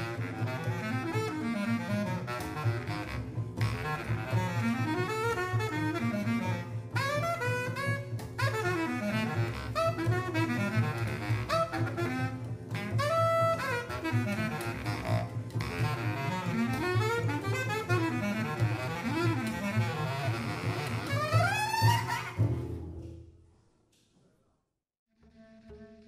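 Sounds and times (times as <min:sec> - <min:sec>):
bass clarinet playing fast runs: 0:00.0 - 0:22.6
double bass line: 0:00.0 - 0:23.4.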